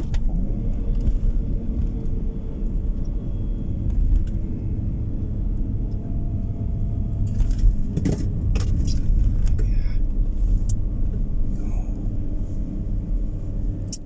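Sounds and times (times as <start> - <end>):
car road rumble from inside: 0.0 - 14.0.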